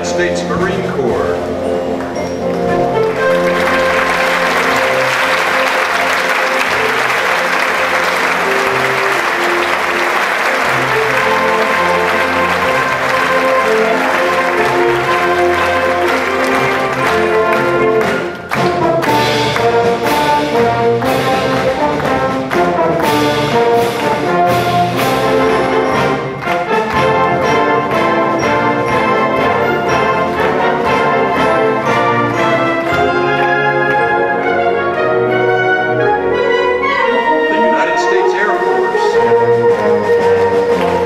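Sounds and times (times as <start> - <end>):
brass concert band playing: 0.0 - 41.0.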